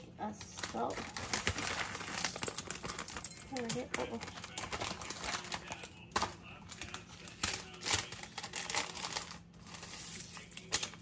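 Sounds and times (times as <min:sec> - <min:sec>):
plastic packets crinkling: 0:00.3 - 0:11.0.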